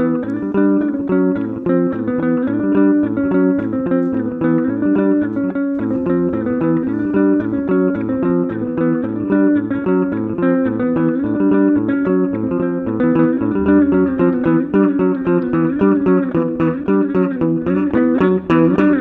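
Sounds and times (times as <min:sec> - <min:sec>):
bass line: 0:00.0 - 0:19.0
plucked guitar: 0:00.0 - 0:19.0.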